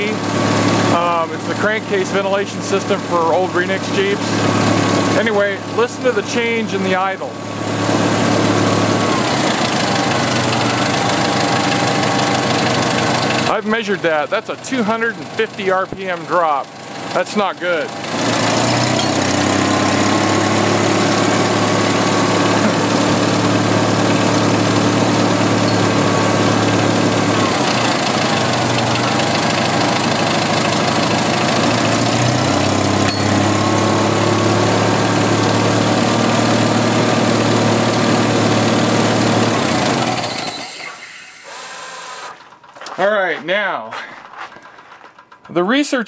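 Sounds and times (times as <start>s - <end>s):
car engine idling: 0.0s - 40.3s.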